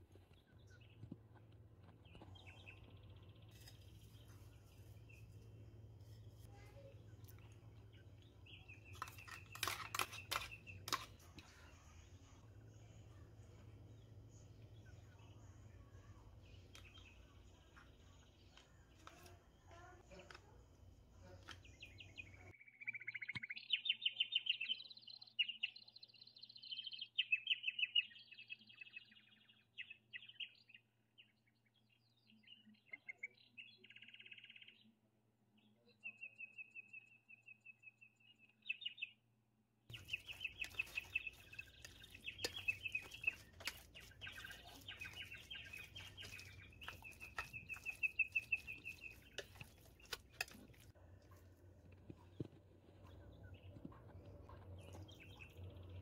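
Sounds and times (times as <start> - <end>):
songbird chirping and trilling: 0.1 - 20.6, 21.2 - 39.2, 39.9 - 56.0.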